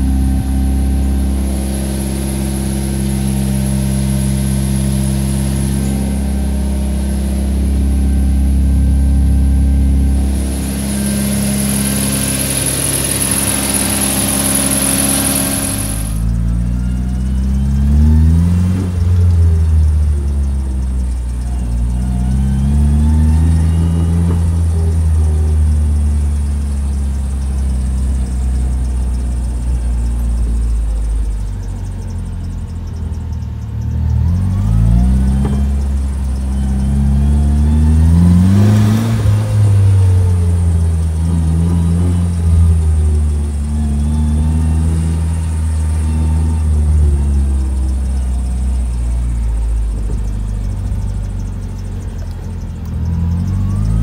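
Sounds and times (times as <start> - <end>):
car engine revving: 0.0 - 54.0
high turbo whine: 0.0 - 54.0.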